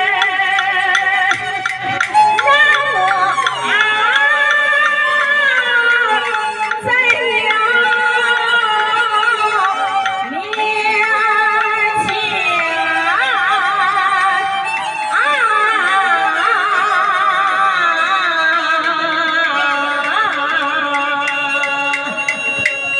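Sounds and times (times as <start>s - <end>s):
woman singing opera: 0.0s - 22.2s
instrumental accompaniment: 0.0s - 22.9s.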